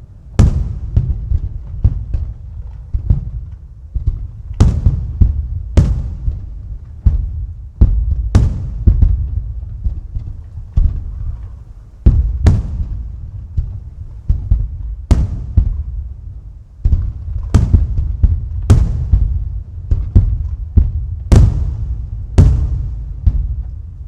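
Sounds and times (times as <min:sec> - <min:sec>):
fireworks bursting with echoing booms: 0:00.0 - 0:24.0.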